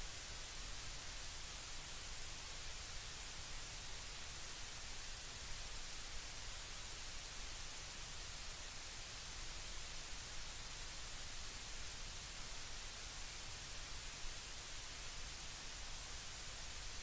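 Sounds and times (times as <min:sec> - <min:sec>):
static hiss: 0:00.0 - 0:17.0.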